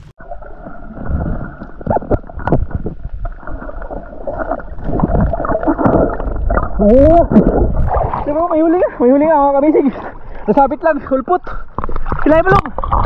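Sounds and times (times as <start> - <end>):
muffled underwater rushing water: 0.0 - 13.0
bubbles and gurgles: 0.2 - 13.0.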